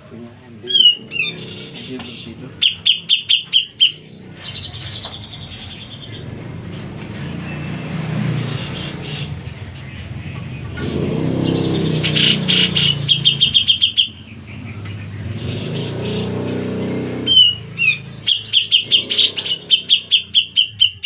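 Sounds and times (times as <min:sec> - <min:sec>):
low engine hum: 0:00.0 - 0:20.8
bird chattering song: 0:00.0 - 0:21.0.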